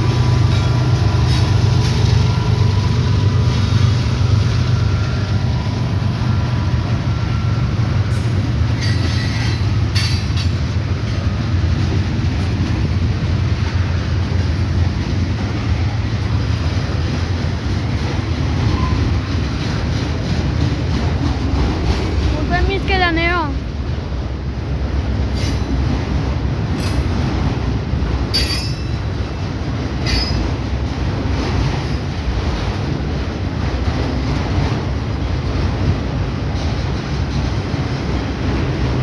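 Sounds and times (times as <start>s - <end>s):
freight train rumbling past: 0.0s - 39.0s
wheels clattering on rail joints: 0.0s - 39.0s.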